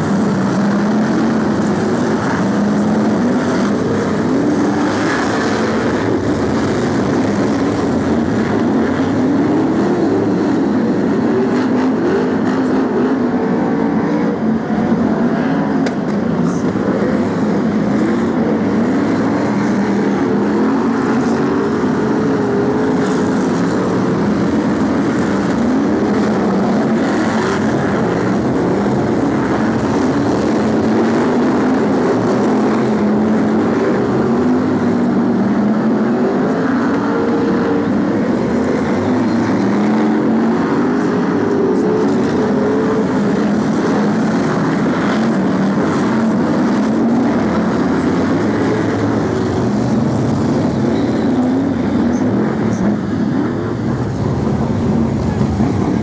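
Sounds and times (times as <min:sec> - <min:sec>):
race car engines running hard: 0:00.0 - 0:56.0.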